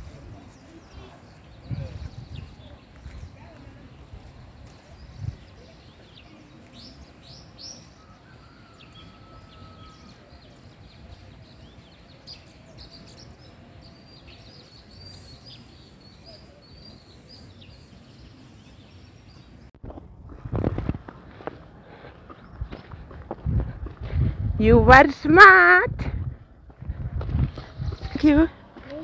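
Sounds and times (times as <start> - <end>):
birds chirping: 0.4 - 19.7, 21.4 - 29.0.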